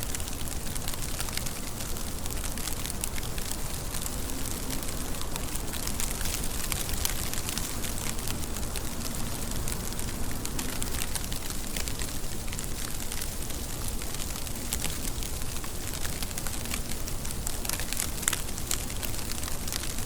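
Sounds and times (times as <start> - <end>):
rain drops pattering: 0.0 - 20.0.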